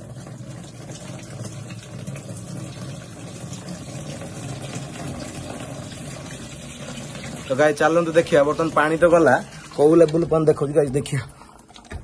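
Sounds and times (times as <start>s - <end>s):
water pouring into plastic tank: 0.0s - 12.0s.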